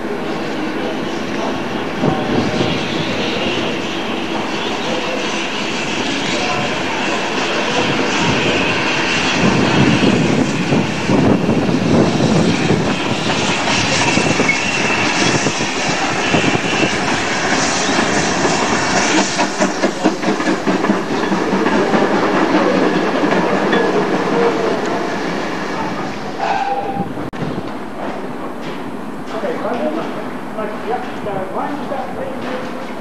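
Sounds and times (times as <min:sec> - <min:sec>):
steam train running past: 0:00.0 - 0:33.0.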